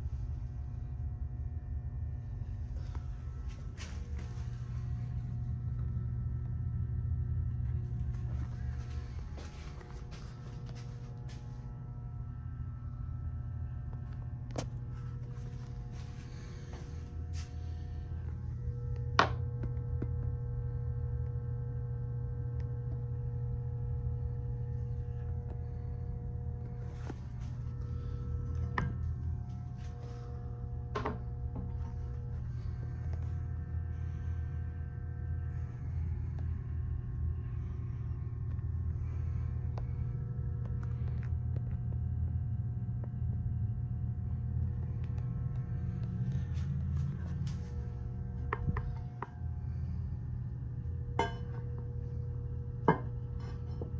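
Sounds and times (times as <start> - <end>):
low hum: 0.0 - 53.9
steady low rumble: 0.0 - 53.9.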